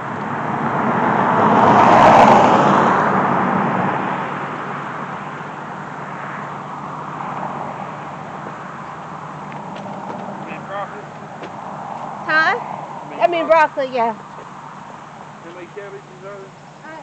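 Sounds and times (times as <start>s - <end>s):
car passing by: 0.0s - 17.0s.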